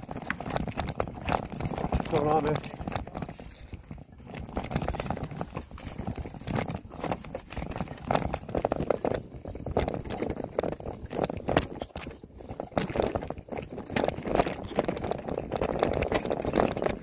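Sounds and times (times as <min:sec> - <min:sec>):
bike rattling and knocking: 0:00.0 - 0:17.0
tyres crunching over stones: 0:00.0 - 0:17.0.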